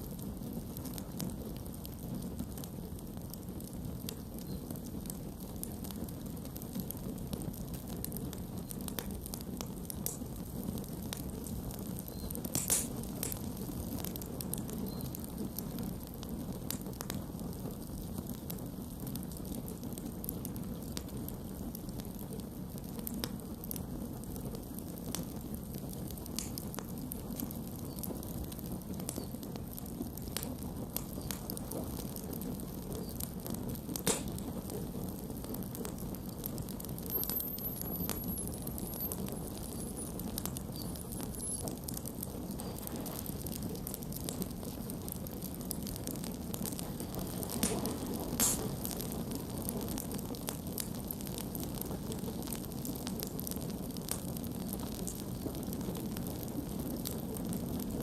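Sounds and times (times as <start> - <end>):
campfire burning: 0.0 - 58.0.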